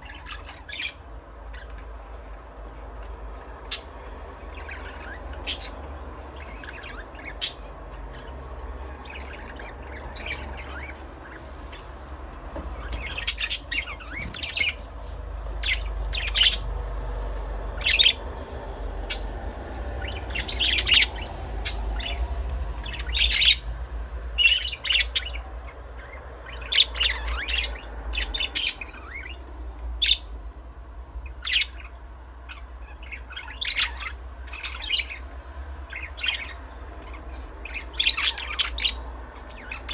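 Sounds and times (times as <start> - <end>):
budgerigars chirping and squawking: 0.0 - 39.9
steady low hum: 0.0 - 39.9.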